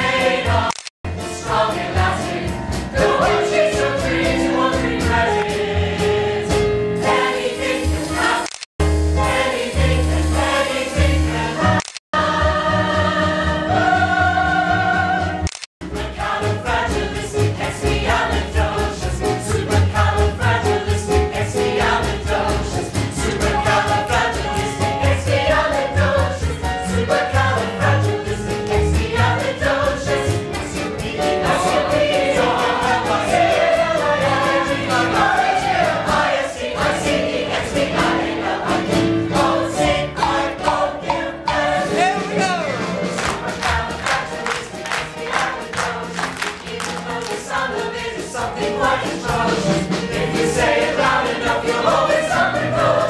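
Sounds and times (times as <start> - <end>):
instrumental accompaniment: 0.0 - 53.0.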